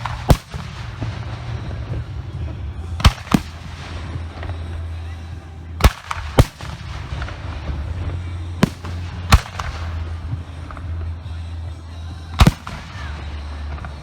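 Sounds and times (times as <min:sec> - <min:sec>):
fireworks bangs: 0:00.0 - 0:05.1, 0:05.8 - 0:10.9, 0:12.4 - 0:14.0
low rumble: 0:00.0 - 0:14.0.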